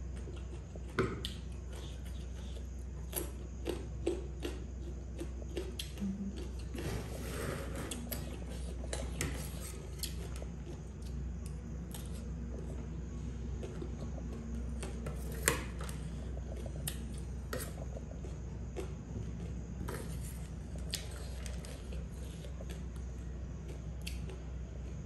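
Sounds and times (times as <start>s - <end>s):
low hum: 4.6s - 25.0s.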